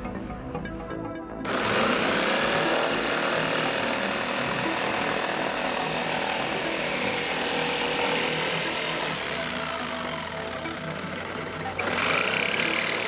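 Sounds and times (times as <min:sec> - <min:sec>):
electric jigsaw cutting plywood: 0:01.4 - 0:13.0.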